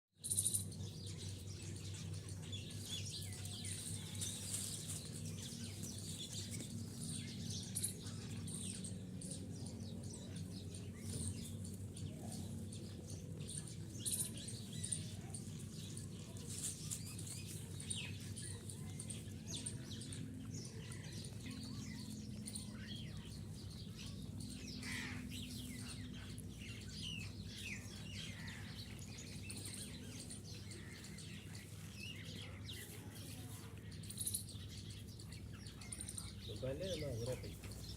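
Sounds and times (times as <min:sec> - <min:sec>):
small birds chirping: 0:00.2 - 0:37.9.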